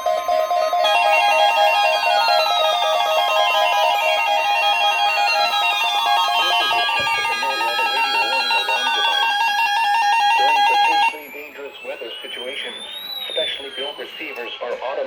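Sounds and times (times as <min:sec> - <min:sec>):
sweeping siren-like tones: 0:00.0 - 0:14.5
pulsing alarm beeps: 0:00.0 - 0:14.6.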